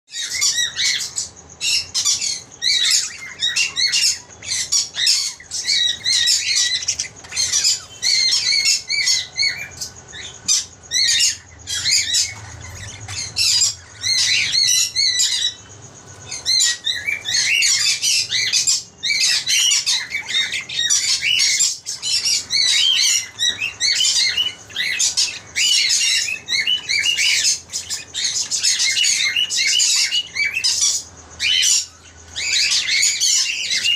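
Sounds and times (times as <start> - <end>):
parrots chattering and squawking: 0.1 - 33.9.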